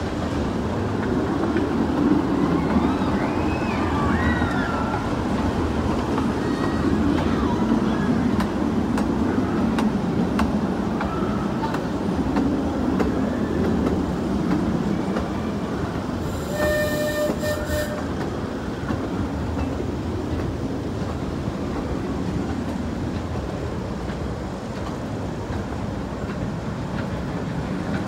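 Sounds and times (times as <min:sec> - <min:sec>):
track clacks: 0:00.0 - 0:03.3, 0:04.1 - 0:28.0
rail vehicle rumbling on track: 0:00.0 - 0:28.0.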